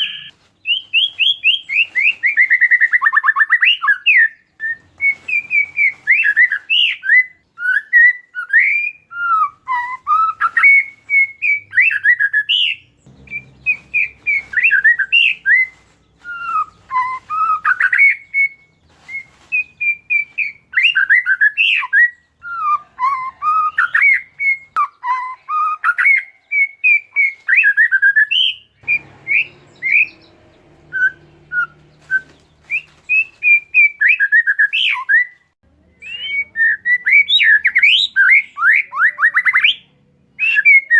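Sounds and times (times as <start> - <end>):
songbird singing whistled phrases: 0.0 - 40.9.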